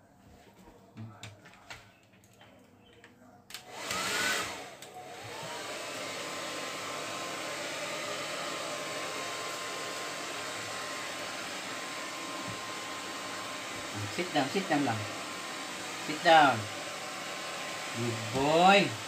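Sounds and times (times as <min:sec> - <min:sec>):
hair dryer blowing: 0:03.6 - 0:19.0.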